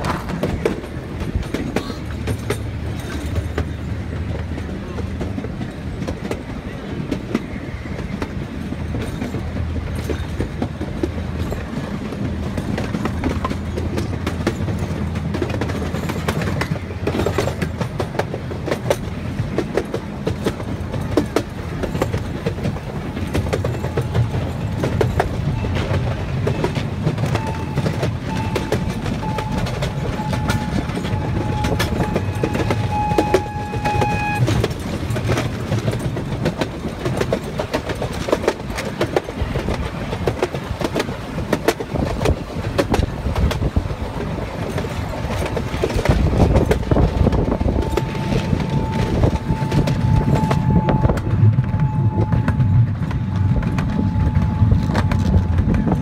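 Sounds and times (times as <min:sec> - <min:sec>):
train rumbling on track: 0:00.0 - 0:56.0
wheels clicking over rail joints: 0:00.0 - 0:56.0.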